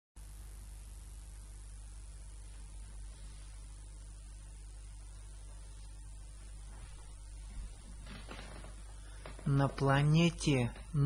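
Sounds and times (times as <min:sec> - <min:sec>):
electrical mains hum: 0:00.2 - 0:11.0.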